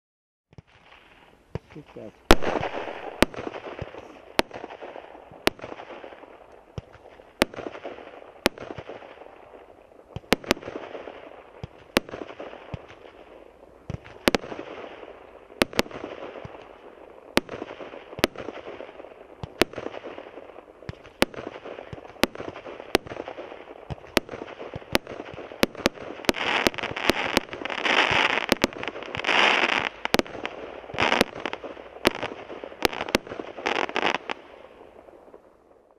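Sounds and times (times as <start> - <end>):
firework bangs: 0.5 - 35.9
firework crackling: 0.5 - 35.9
firework hiss: 0.7 - 35.5.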